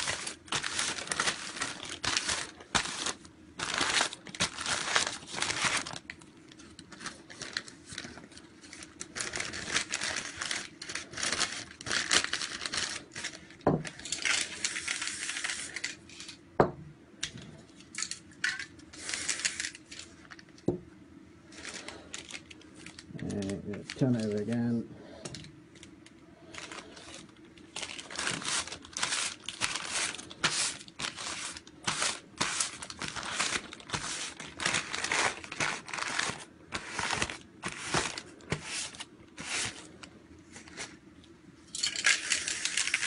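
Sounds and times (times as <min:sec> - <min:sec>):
paper crinkling and rustling: 0:00.0 - 0:16.4, 0:18.8 - 0:20.7, 0:21.5 - 0:41.0, 0:42.0 - 0:43.0.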